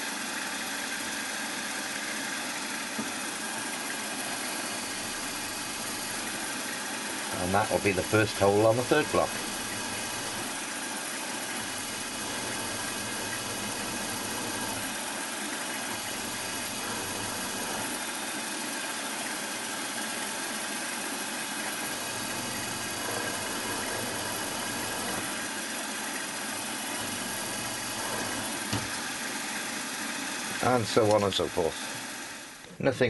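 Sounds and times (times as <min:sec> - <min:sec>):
drill cutting metal: 0:00.0 - 0:32.7
milling machine motor whine: 0:00.0 - 0:32.8.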